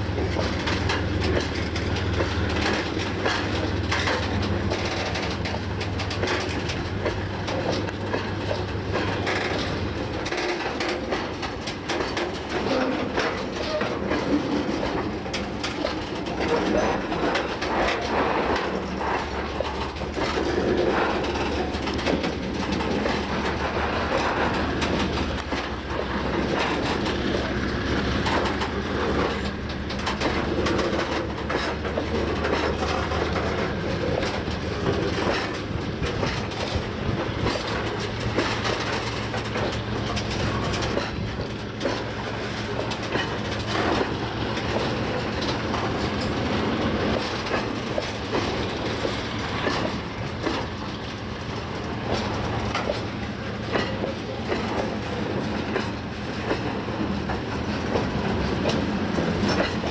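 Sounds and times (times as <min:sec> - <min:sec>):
freight wagons rumbling on rails: 0:00.0 - 0:59.9
wheels clicking over rail joints: 0:00.0 - 0:59.9.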